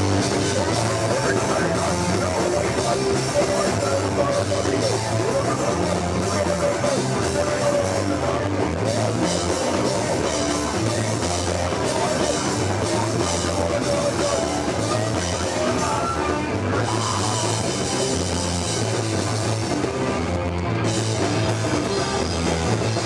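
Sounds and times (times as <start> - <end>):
bass guitar: 0.0 - 23.0
drum kit: 0.0 - 23.0
electric guitar: 0.0 - 23.0.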